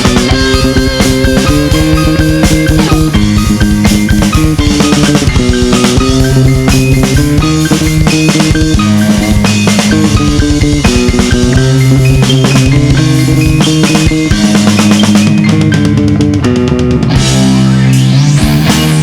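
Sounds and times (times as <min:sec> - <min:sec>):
progressive rock band playing: 0:00.0 - 0:19.0.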